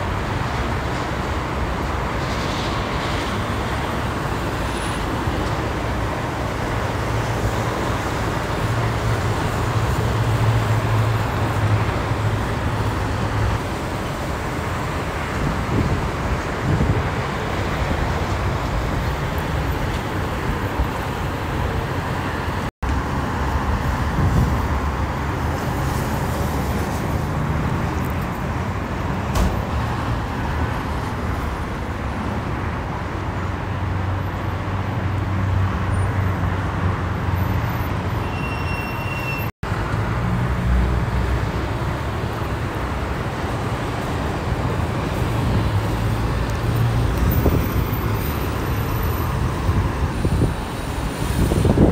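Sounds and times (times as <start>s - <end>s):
freeway traffic rumble: 0.0s - 51.9s.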